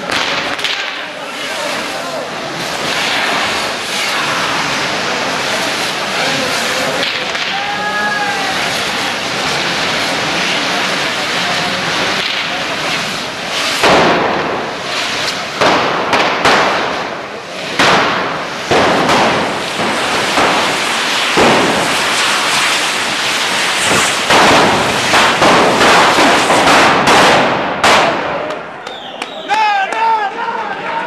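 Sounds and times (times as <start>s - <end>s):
sharp firework bangs: 0.0s - 29.4s
fireworks hissing and fizzing: 0.0s - 29.5s.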